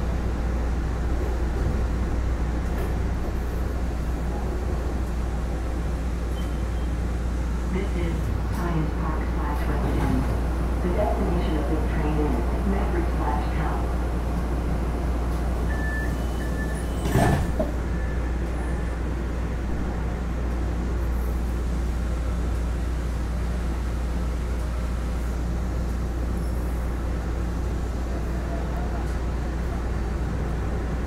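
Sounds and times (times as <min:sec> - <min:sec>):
low hum inside tram: 0:00.0 - 0:31.0.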